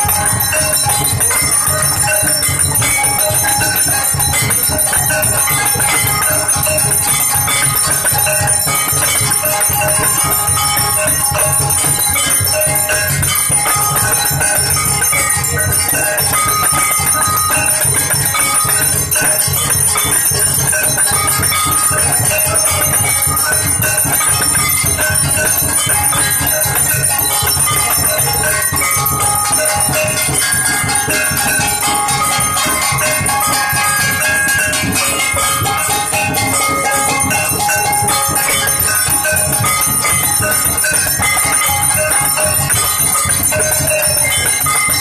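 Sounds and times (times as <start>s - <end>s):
temple bells ringing: 0.0s - 45.0s.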